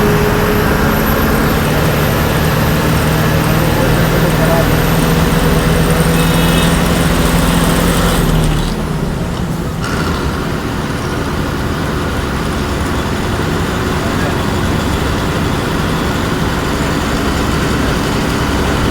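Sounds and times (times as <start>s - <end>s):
bus engine drone: 0.0s - 18.9s
low engine and road rumble: 0.0s - 18.9s.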